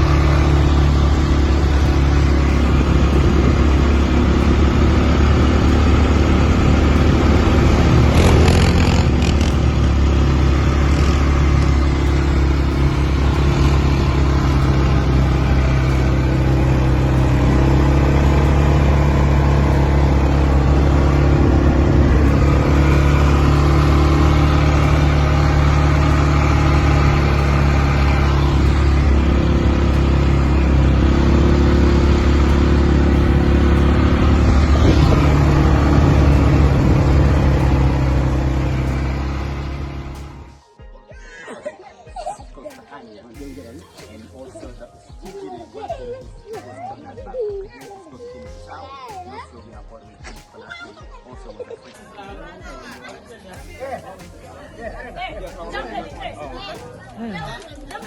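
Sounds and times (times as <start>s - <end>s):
vehicle engine running: 0.0s - 40.6s, 43.3s - 44.8s, 53.6s - 58.0s.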